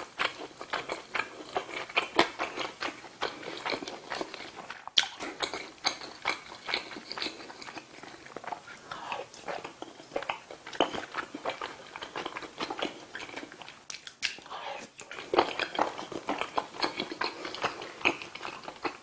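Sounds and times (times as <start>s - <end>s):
person chewing with mouth smacks: 0.0s - 19.0s.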